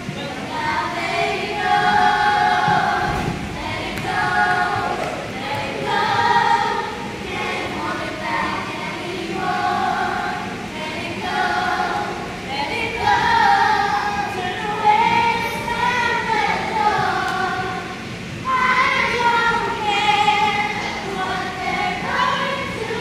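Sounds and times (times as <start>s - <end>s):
children singing in unison: 0.3s - 23.0s.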